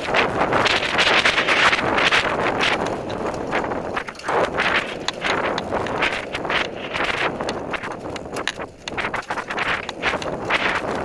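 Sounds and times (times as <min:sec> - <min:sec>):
bike rattling clicks: 0:00.0 - 0:11.0
bike tyres rumbling over dirt: 0:00.0 - 0:11.0
wind buffeting microphone: 0:00.0 - 0:11.0.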